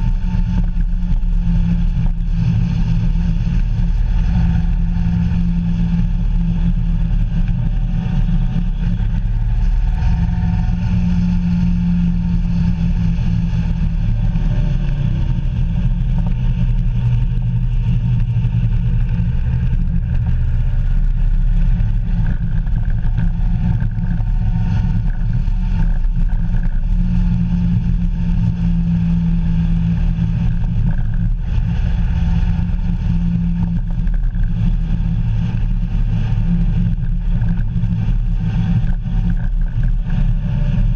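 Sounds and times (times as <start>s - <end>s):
vehicle engine running: 0.0s - 40.9s
wind noise: 0.0s - 40.9s.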